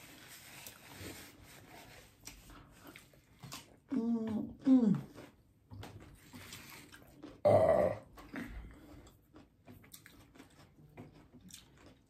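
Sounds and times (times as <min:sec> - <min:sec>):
close chewing with mouth clicks: 0:02.2 - 0:12.0.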